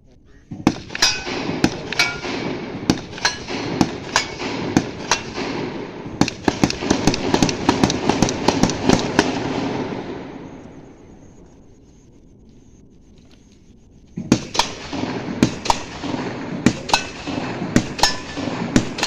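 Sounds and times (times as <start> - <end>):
rifle shots echoing: 0.5 - 11.3, 14.2 - 19.0.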